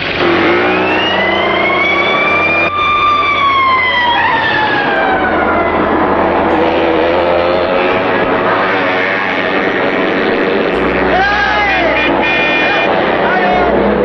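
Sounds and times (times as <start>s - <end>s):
police siren wailing: 0.0s - 14.0s.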